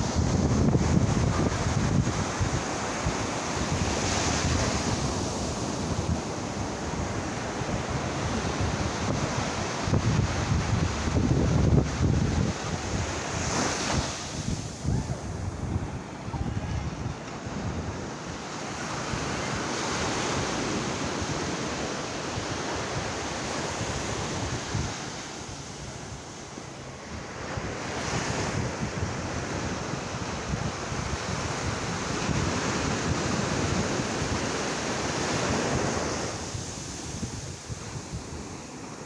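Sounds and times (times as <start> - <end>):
ocean surf breaking: 0.0 - 39.0
wind buffeting microphone: 0.0 - 39.0.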